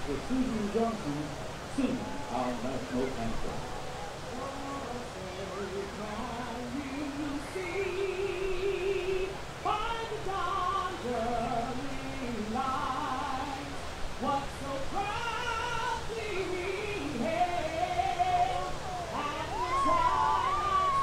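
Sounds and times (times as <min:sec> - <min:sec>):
woman singing with vibrato: 0:03.6 - 0:21.0.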